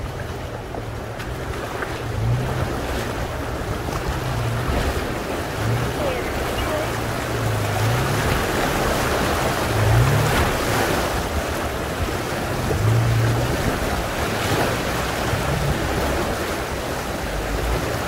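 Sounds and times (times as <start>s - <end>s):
engine running low: 0.0s - 18.0s
splashing water: 0.0s - 18.0s.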